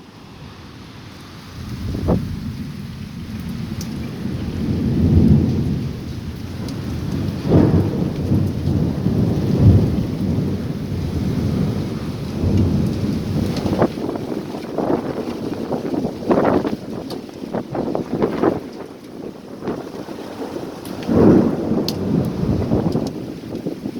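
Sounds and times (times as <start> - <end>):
rain: 0.0 - 23.9
thunder rumbling: 1.4 - 23.9.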